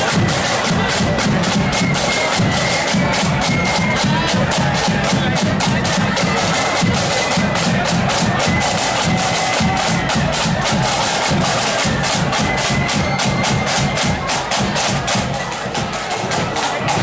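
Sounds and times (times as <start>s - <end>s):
bass drum: 0.0s - 17.0s
flute melody: 0.0s - 17.0s
rapid snare drumming: 0.0s - 17.0s.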